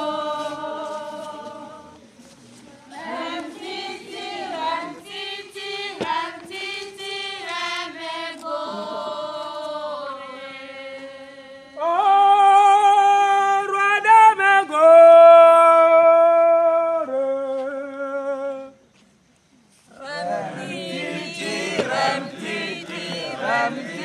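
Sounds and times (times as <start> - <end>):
group of voices singing: 0.0 - 2.2, 2.9 - 18.6, 19.9 - 24.0.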